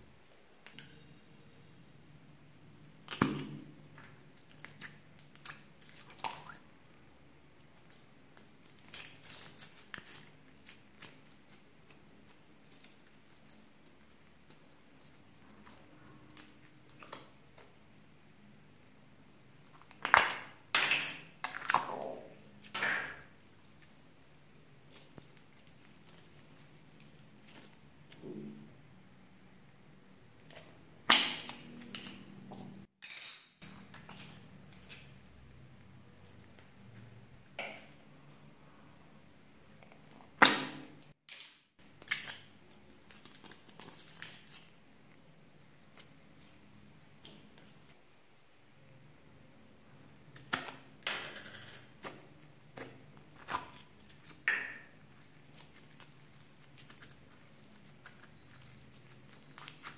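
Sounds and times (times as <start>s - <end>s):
wet slime squelches: 2.6s - 29.2s, 33.6s - 41.2s, 41.8s - 51.0s, 51.9s - 59.9s.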